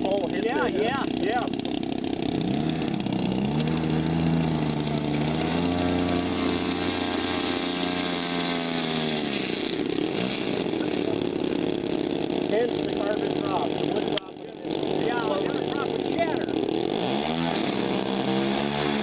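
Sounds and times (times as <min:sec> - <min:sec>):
model plane two-stroke engines: 0:00.0 - 0:19.0.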